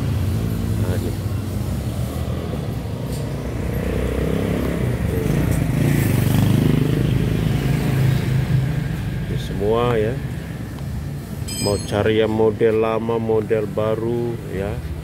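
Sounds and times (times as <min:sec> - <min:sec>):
motorcycle engines passing: 0:00.0 - 0:12.7.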